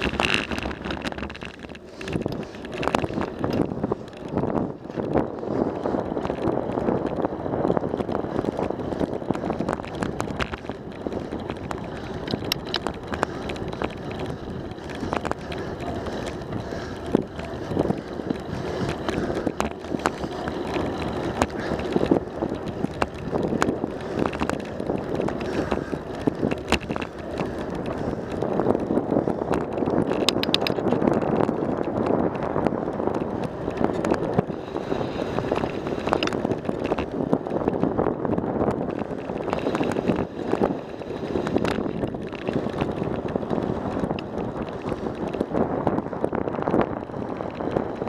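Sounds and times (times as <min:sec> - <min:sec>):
bicycle tyre noise: 0:00.0 - 0:48.0
clicks and rattles from bumps: 0:00.0 - 0:48.0
wind buffeting microphone: 0:00.0 - 0:48.0.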